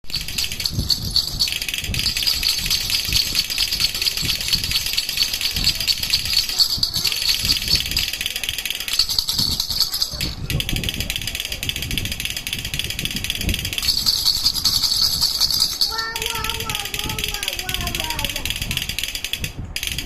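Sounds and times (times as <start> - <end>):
baby rattle shaken: 0.0 - 20.0.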